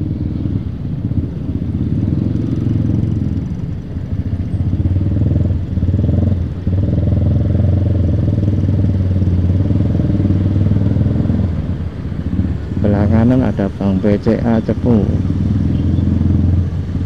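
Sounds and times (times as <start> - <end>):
motorcycle engine rumble: 0.0 - 17.0
wind rumble on microphone: 0.0 - 17.0.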